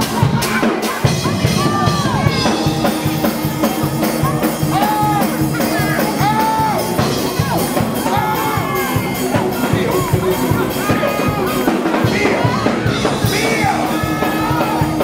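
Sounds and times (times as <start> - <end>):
church praise music: 0.0 - 15.0
driving drum beat: 0.0 - 15.0
voices crying out and singing: 0.0 - 15.0.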